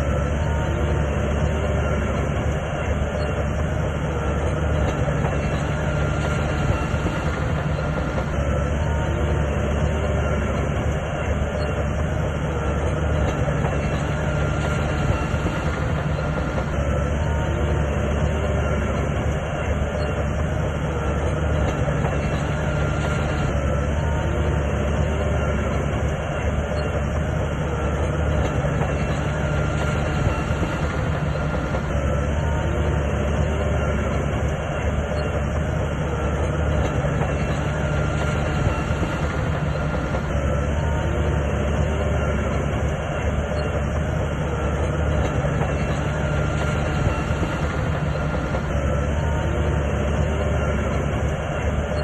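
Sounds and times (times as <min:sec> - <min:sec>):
bulldozer diesel engine droning: 0:00.0 - 0:52.0.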